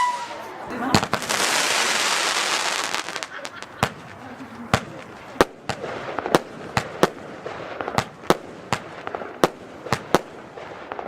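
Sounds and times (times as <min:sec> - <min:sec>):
firework battery bangs: 0:00.0 - 0:11.0.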